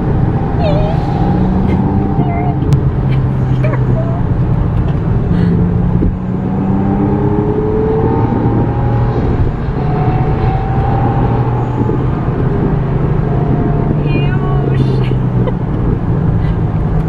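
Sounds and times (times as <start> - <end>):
car engine accelerating: 0.0 - 17.0
road noise: 0.0 - 17.0.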